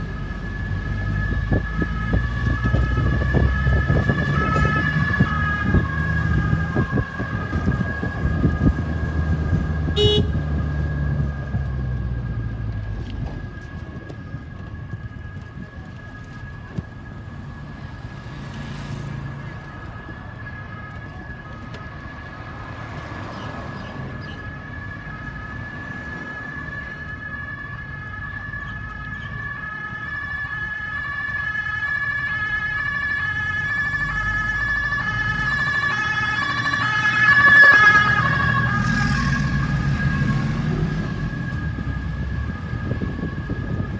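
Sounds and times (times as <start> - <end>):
ambulance siren: 0.0 - 43.9
vehicle rumble passing: 0.0 - 43.9.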